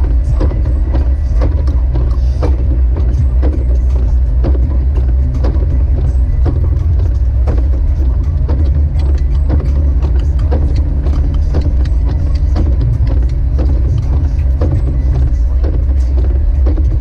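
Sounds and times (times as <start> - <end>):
engine and road noise rumble: 0.0 - 17.0.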